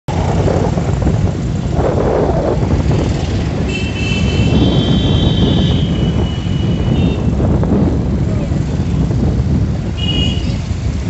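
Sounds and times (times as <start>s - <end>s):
traffic engines rumbling: 0.1s - 11.0s
wind buffeting microphone: 0.1s - 11.0s.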